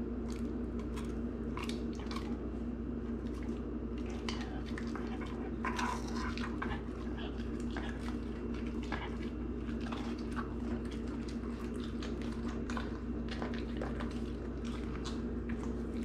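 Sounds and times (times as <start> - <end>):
dog chewing and licking food: 0.0 - 16.0
low electrical hum: 0.0 - 16.0.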